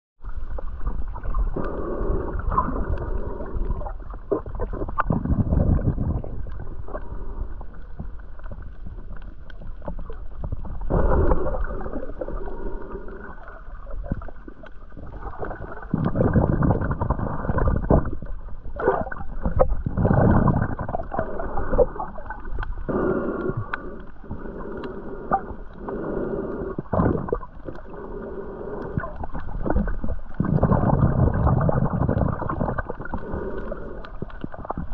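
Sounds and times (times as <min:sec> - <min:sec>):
muffled underwater gurgling: 0:00.2 - 0:34.9.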